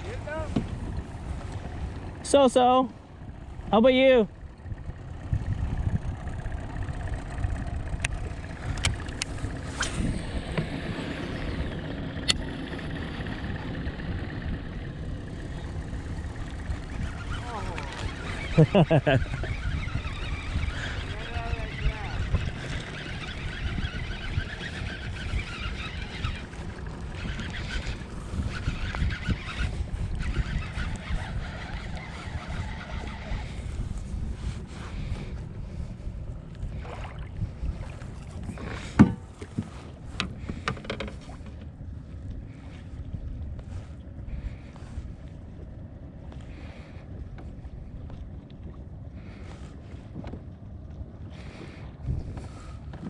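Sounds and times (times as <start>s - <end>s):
water lapping around kayak: 0.0s - 53.0s
wind buffeting microphone: 0.0s - 53.0s.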